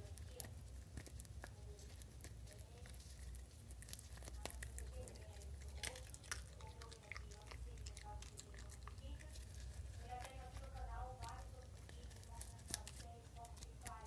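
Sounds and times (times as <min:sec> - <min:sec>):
dog crunching corn kernels: 0:00.0 - 0:14.0.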